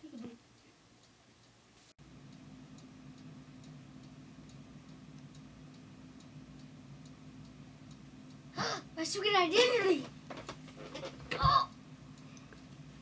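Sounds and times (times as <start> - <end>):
faint regular ticking: 0.0 - 10.8, 11.7 - 13.0
low steady hum: 0.0 - 13.0.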